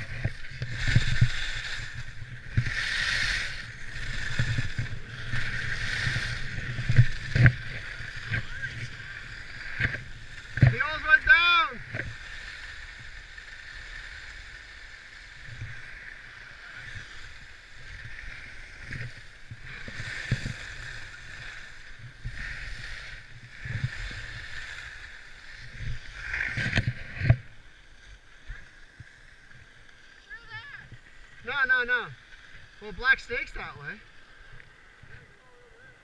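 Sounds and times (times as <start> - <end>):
skis scraping over snow: 0.0 - 36.0.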